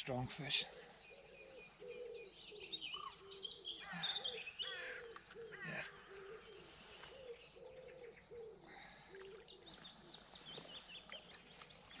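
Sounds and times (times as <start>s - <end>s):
songbirds singing and chirping: 0.0s - 12.0s.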